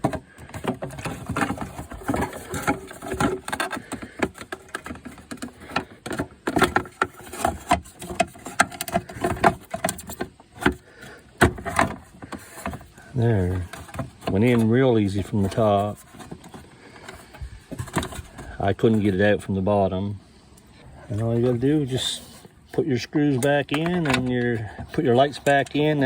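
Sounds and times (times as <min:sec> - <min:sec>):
plastic clicks and scraping: 0:00.0 - 0:19.2, 0:20.6 - 0:26.0.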